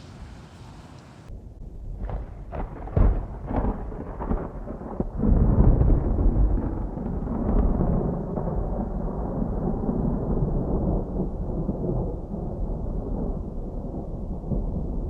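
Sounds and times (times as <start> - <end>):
distant thunder rumbling: 1.3 - 15.0.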